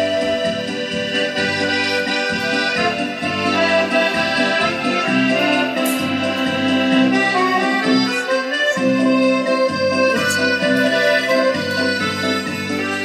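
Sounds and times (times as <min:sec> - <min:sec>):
accordion playing a tune: 0:00.0 - 0:13.0.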